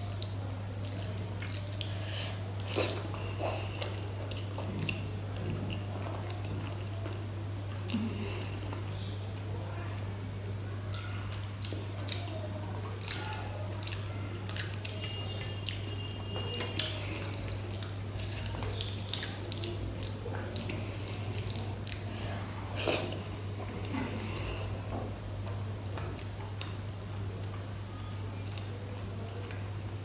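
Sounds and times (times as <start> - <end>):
food squishing mixed by hand: 0.0 - 9.5, 10.8 - 26.8
mouth sounds of eating: 0.0 - 24.9.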